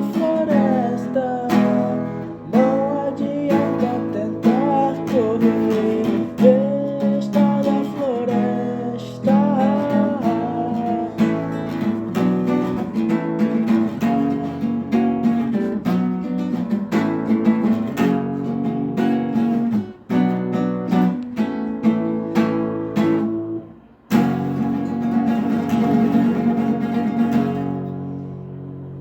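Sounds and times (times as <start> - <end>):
strummed acoustic guitar music: 0.0 - 29.0.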